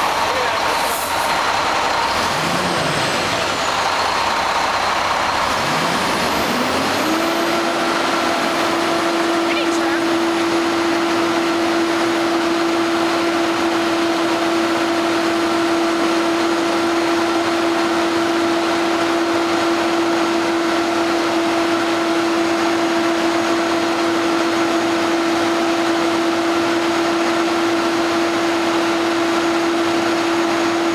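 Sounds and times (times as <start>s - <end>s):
concrete mixer running: 0.0s - 30.9s.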